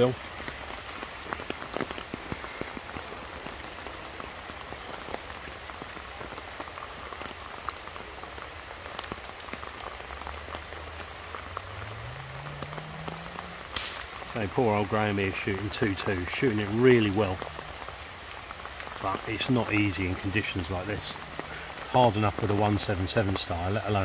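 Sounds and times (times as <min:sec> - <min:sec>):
heavy rain hissing: 0:00.0 - 0:24.0
raindrops ticking close by: 0:00.0 - 0:24.0.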